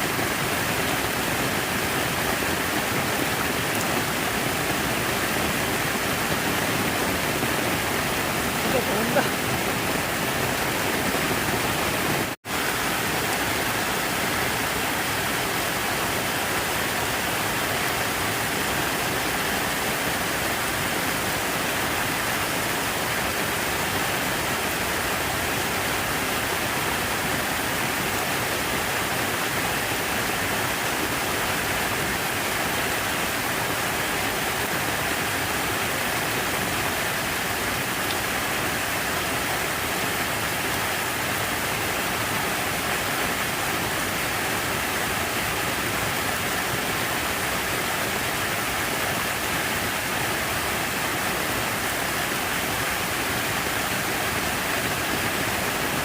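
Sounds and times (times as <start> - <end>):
falling water splashing: 0.0 - 56.0.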